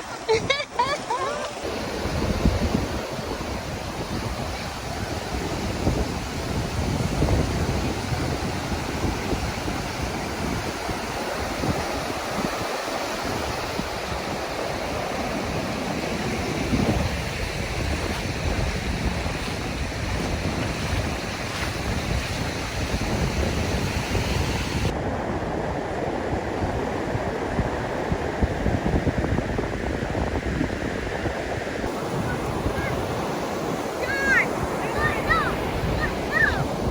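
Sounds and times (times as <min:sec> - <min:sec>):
ocean surf washing ashore: 0:00.0 - 0:36.9
wind buffeting microphone: 0:01.6 - 0:36.9.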